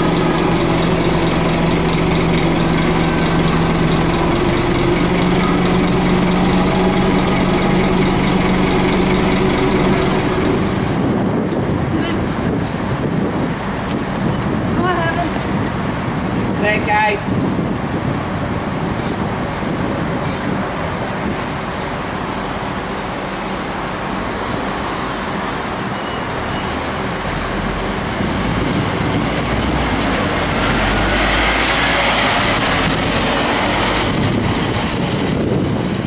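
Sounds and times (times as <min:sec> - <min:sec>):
diesel bus engine: 0:00.0 - 0:36.0
street traffic noise: 0:00.0 - 0:36.0.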